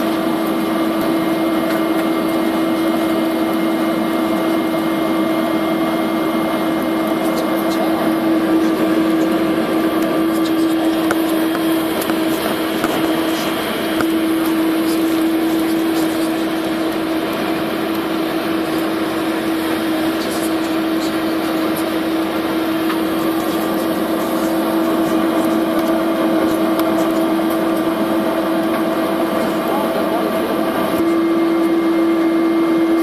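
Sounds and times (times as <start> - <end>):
jet engines idling hum: 0.0 - 33.0.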